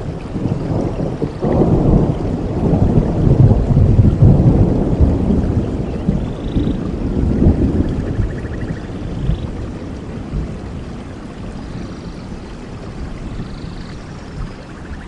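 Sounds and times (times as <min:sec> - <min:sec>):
rain: 0:00.0 - 0:15.0
rolling thunder rumble: 0:00.0 - 0:15.0.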